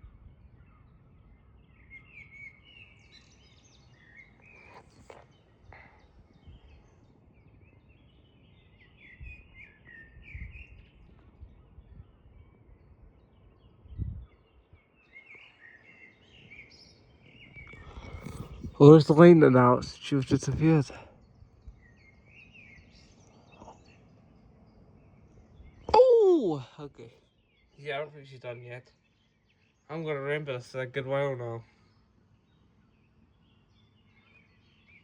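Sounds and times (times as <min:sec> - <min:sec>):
birds chirping faintly: 0:00.0 - 0:35.0.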